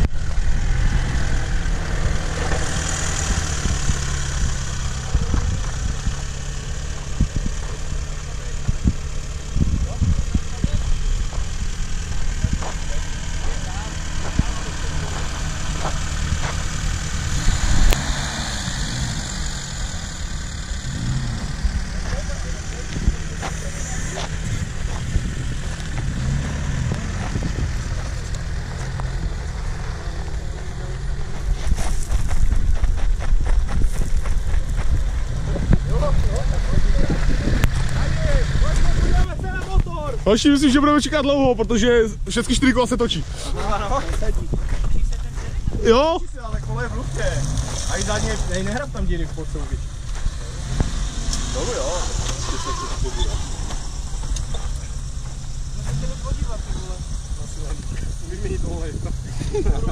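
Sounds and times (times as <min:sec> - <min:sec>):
car engine running at low revs: 0:00.0 - 0:59.9.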